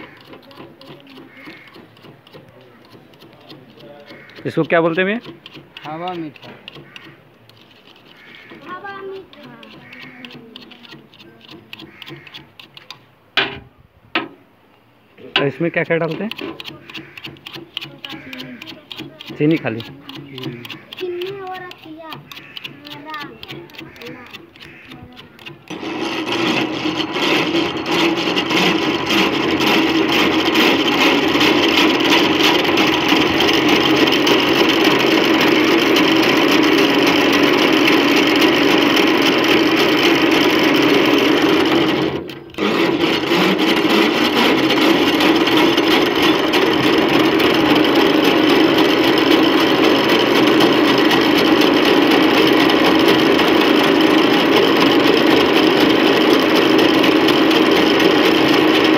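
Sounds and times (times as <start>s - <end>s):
cotton candy machine whirring: 0.0s - 12.9s, 15.4s - 58.9s.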